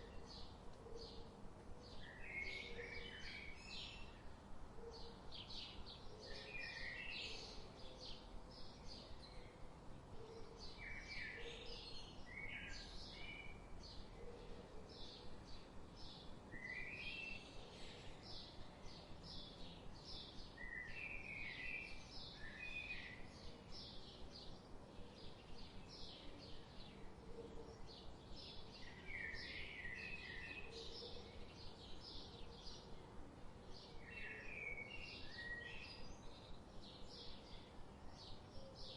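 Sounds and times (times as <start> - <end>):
low background hiss: 0.0 - 38.9.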